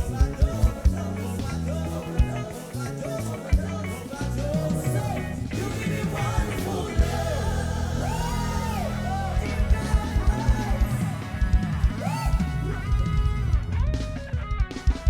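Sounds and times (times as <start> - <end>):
person singing: 0.0 - 13.3
live band playing reggae gospel: 0.0 - 15.0.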